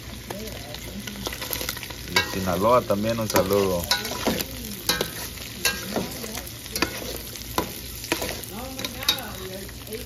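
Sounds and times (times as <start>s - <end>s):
food frying in a pan: 0.0s - 10.0s.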